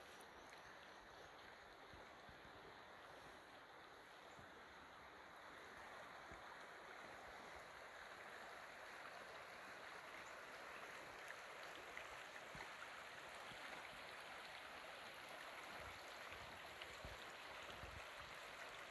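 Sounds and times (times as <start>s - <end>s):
creek water rushing over rocks: 0.0s - 18.9s.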